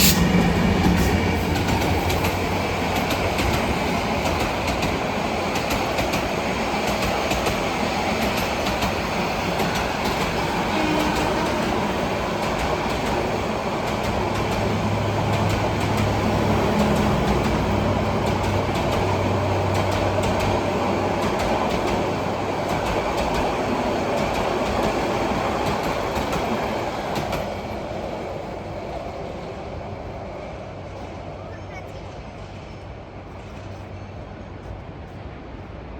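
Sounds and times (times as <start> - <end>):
wheels clattering on rails: 0.0 - 29.8
train rumbling past: 0.0 - 35.9.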